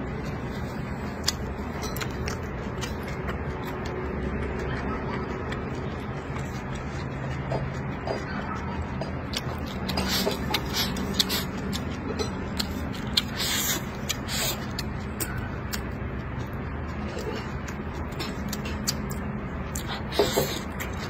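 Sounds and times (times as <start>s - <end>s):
man chewing with wet smacking: 0.0s - 21.0s
steady low hum: 0.0s - 21.0s.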